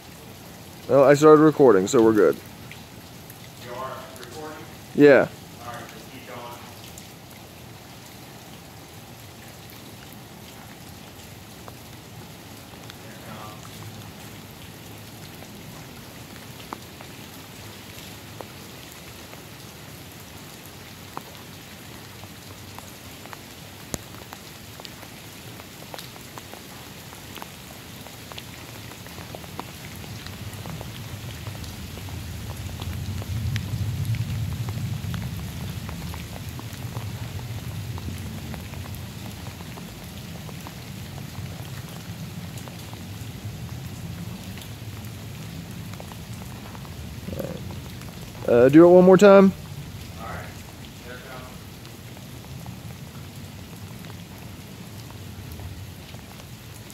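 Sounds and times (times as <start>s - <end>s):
light rain: 0.0s - 56.9s.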